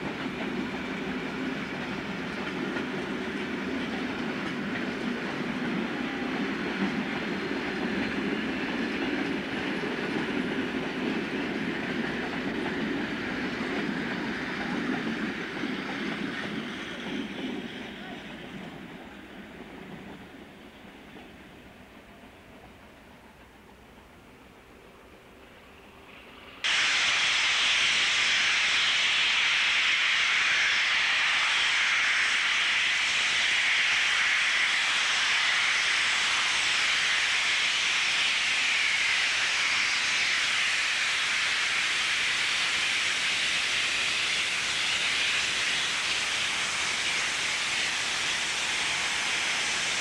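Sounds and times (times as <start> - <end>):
steam locomotive blowing off steam: 0.0 - 50.0.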